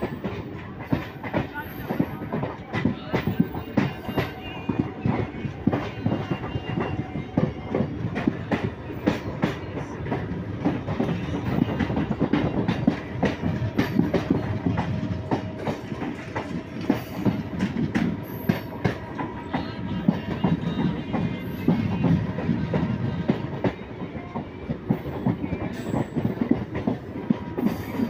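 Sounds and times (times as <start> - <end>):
train rumble: 0.0 - 28.0
train wheels clattering over rails: 0.0 - 28.0.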